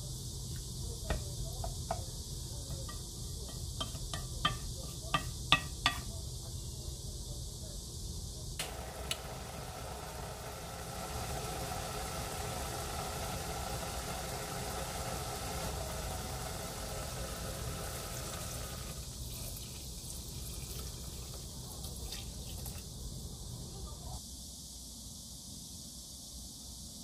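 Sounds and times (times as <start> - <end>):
broth bubbling in saucepan: 0.0 - 24.2.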